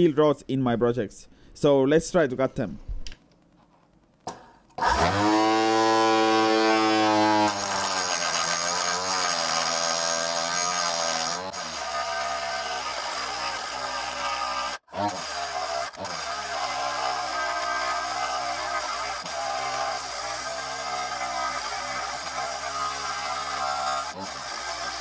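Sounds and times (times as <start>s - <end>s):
abrasive disc grinding steel: 4.8s - 25.0s
saw motor whining: 4.8s - 25.0s.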